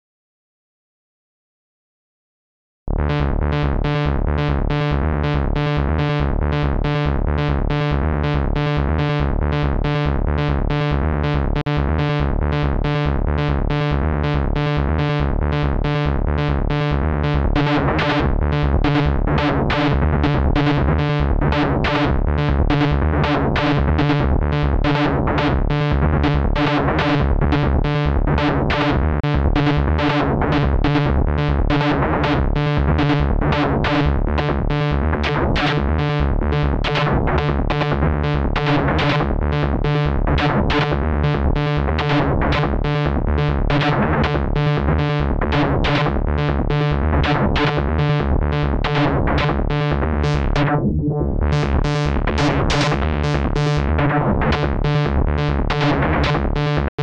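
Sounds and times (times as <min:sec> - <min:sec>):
steady low pulse: 0:02.9 - 0:26.6, 0:30.6 - 0:56.9.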